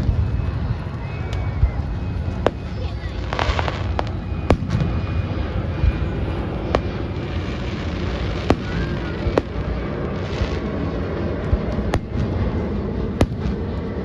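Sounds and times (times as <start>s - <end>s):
fireworks cracks: 0.0s - 14.0s.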